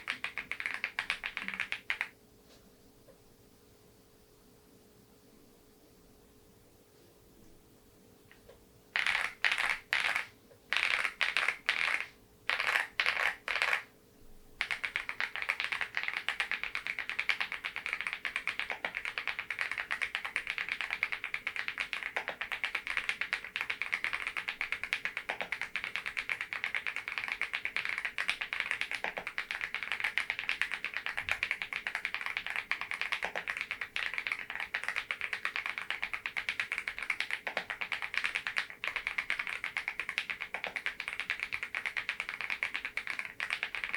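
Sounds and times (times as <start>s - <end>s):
fast typing on mechanical keyboard: 0.0s - 2.1s, 9.0s - 13.9s, 14.6s - 43.9s.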